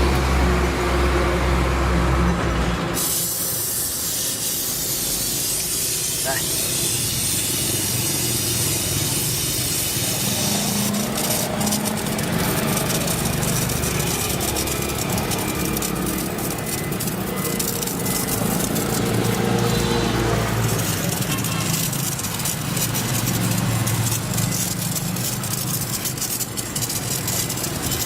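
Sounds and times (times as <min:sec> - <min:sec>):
gas torch flame hissing: 0:02.7 - 0:28.0.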